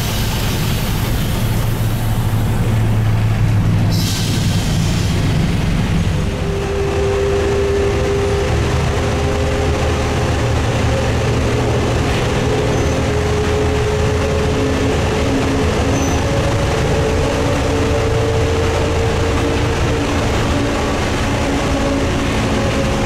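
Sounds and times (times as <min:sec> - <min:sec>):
bus diesel engine droning: 0:00.0 - 0:23.0.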